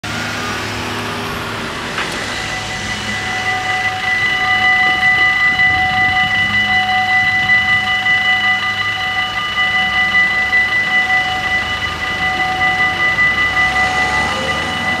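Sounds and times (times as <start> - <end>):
car driving over crossing: 0.0 - 15.0
electronic warning bells ringing: 0.4 - 15.0.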